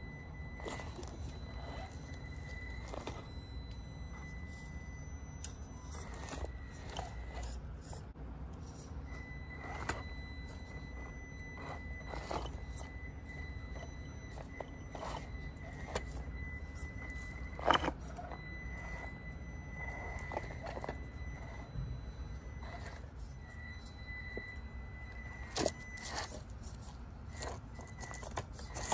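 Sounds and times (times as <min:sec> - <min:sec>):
low steady rumble: 0:00.0 - 0:28.9
small electric motor whine: 0:00.0 - 0:28.9.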